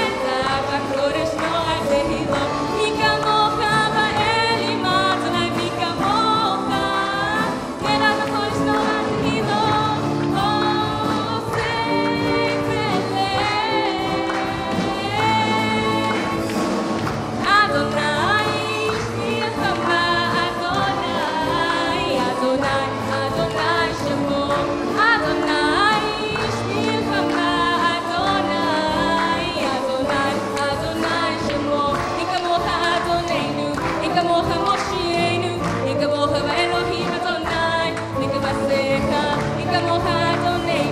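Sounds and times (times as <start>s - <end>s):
instrumental accompaniment: 0.0s - 40.9s
voices singing together: 0.0s - 40.9s.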